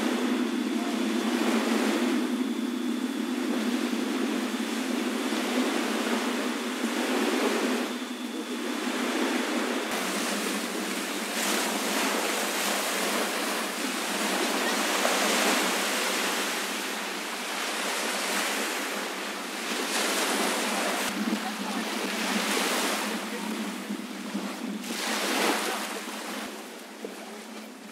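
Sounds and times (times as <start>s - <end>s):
waves washing onto sandy beach: 0.0s - 27.9s.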